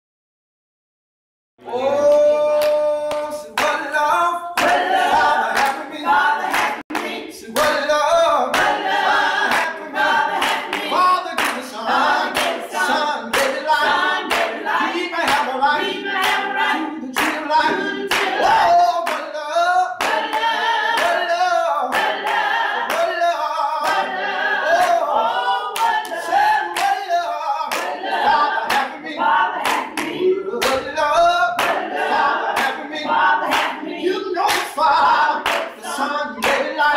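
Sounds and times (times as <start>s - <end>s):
hand clapping: 2.1s - 4.0s, 4.6s - 15.6s, 16.2s - 19.4s, 20.0s - 24.1s, 24.8s - 25.1s, 25.8s - 29.0s, 29.6s - 36.9s
choir singing: 3.8s - 19.1s, 19.9s - 36.9s.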